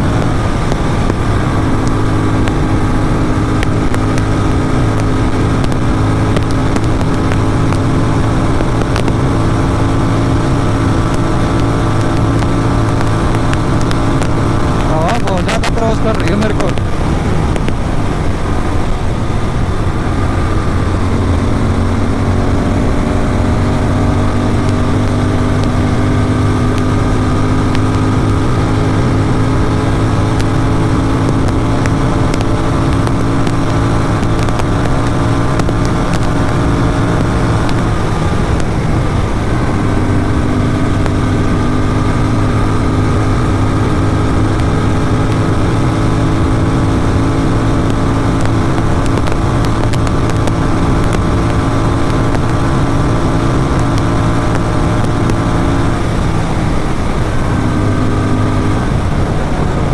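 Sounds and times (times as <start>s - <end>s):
motorcycle engine running hard: 0.0s - 59.9s
wind noise: 0.0s - 59.9s.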